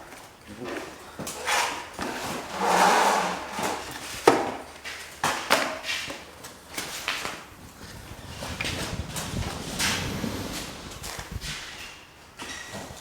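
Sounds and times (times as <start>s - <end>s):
drywall taping knocks and scrapes: 1.2s - 13.0s.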